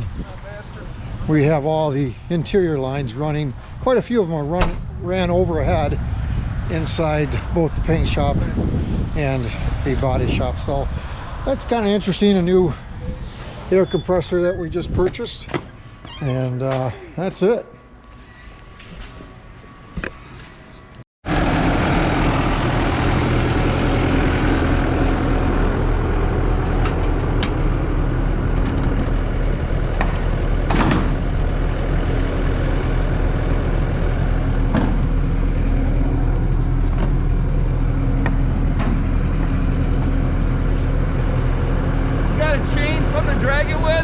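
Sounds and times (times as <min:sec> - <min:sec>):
vehicle engine running steadily: 0:00.0 - 0:15.1, 0:19.2 - 0:44.0.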